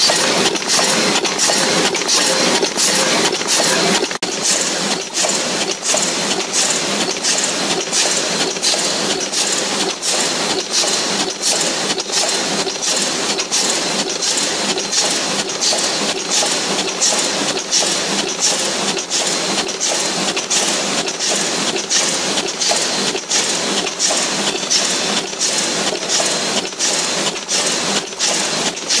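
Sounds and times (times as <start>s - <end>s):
machine mechanical clatter: 0.0s - 29.0s.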